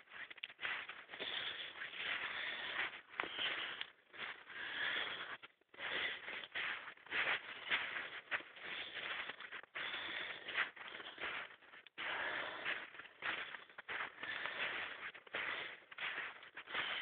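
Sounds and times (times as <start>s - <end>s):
person breathing hard: 0.7s - 17.0s.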